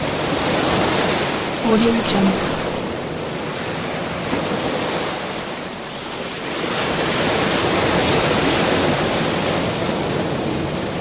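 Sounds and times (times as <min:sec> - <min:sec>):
ocean waves washing: 0:00.0 - 0:11.0.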